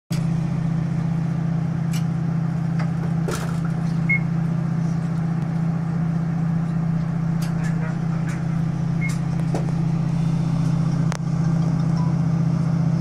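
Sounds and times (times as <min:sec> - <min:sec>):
diesel engine drone in train: 0:00.1 - 0:13.0.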